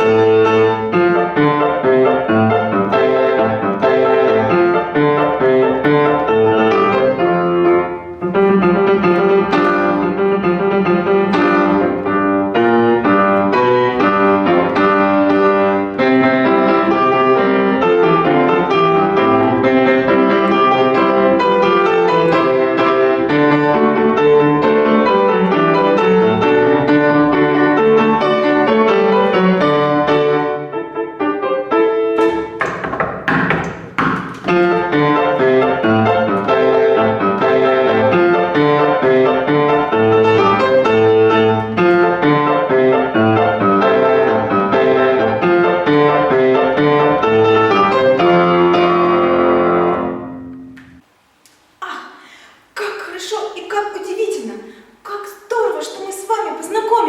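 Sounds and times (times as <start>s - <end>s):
piano playing quick notes: 0.0s - 51.0s.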